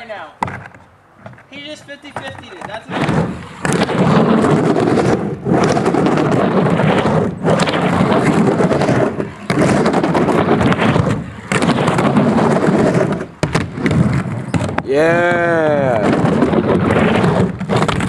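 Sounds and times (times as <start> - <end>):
skateboard wheels rolling on plywood: 0.0 - 18.0.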